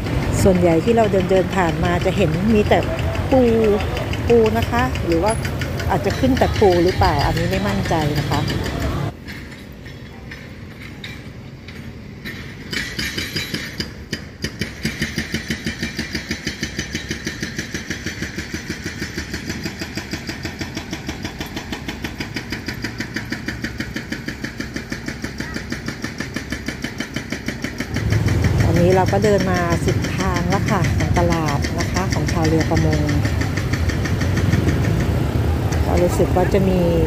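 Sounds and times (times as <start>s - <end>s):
engine thudding slowly: 0.0s - 37.0s.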